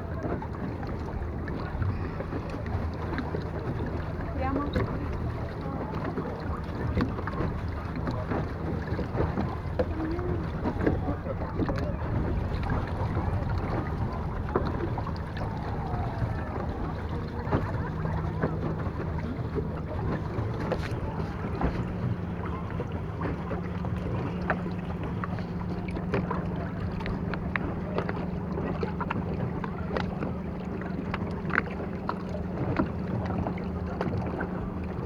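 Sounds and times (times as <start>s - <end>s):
boat motor hum: 0.0s - 35.0s
water splashing and lapping: 0.0s - 35.0s
wind on microphone: 0.0s - 35.0s.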